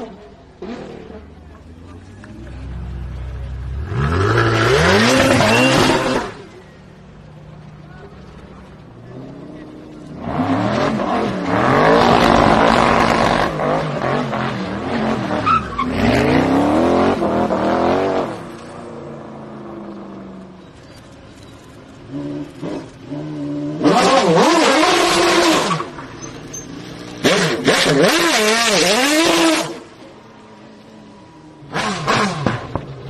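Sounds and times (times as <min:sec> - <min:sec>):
sports car engines revving: 0:00.0 - 0:33.0.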